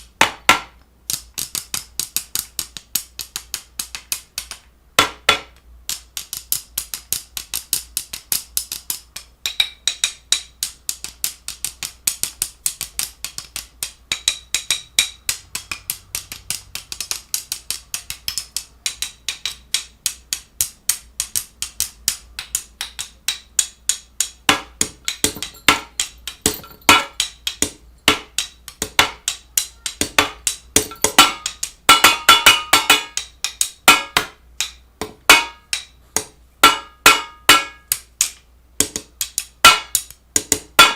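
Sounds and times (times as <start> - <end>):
sharp clicks and taps: 0.0 - 40.9.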